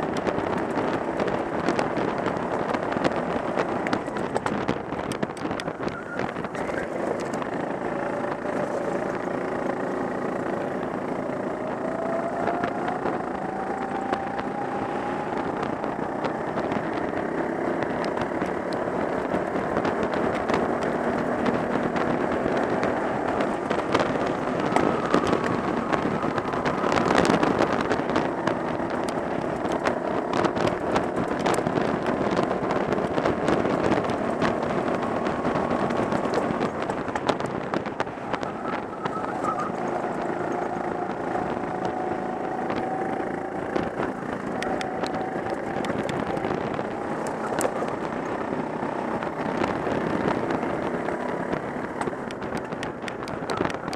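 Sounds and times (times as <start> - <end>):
go-kart engine revving: 0.0 - 53.9
other karts running: 0.0 - 53.9.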